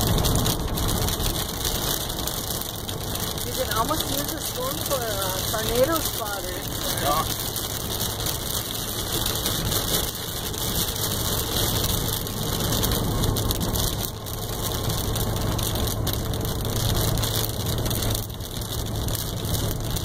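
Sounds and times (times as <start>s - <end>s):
crackle of wet road: 0.0s - 20.0s
engine and road noise in cab: 0.0s - 20.0s.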